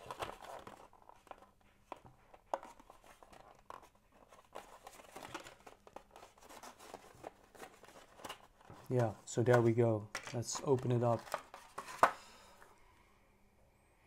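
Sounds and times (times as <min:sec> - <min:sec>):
cardboard box rustling: 0:00.0 - 0:09.8, 0:10.5 - 0:12.2.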